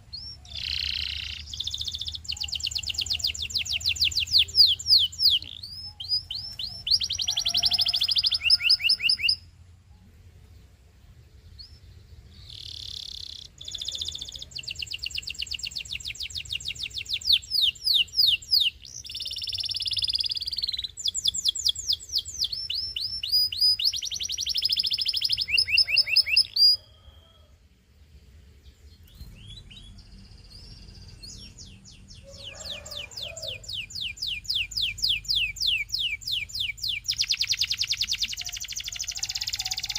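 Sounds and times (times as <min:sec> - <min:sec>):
canary singing trills: 0:00.0 - 0:09.6, 0:11.4 - 0:27.5, 0:28.5 - 0:39.9.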